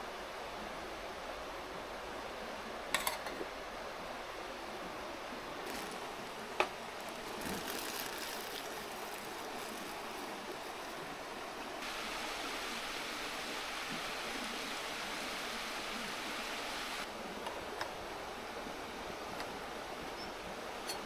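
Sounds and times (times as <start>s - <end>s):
mountain river murmuring: 0.0s - 21.0s.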